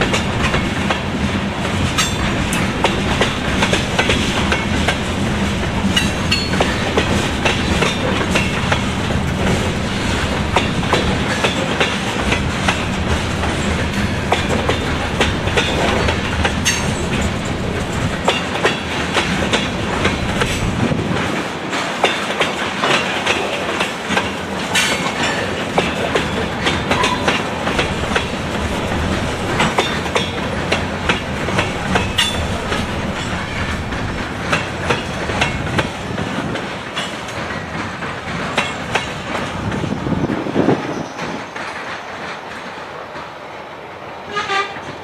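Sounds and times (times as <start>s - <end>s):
steel wheels clacking over rail joints: 0.0s - 43.4s
freight train rolling rumble: 0.0s - 45.0s.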